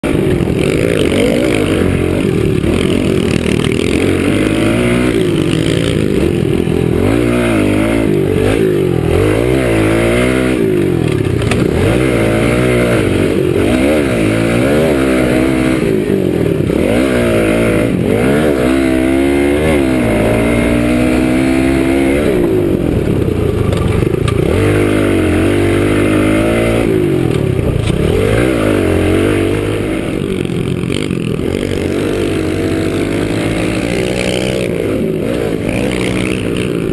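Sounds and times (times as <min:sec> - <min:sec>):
small motorbike engine revving: 0:00.0 - 0:36.9.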